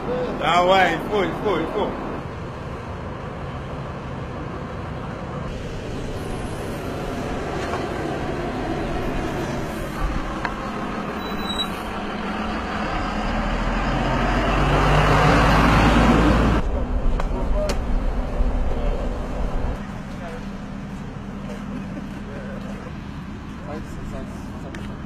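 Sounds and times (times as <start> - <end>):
bus engine rumbling: 0.0 - 25.0.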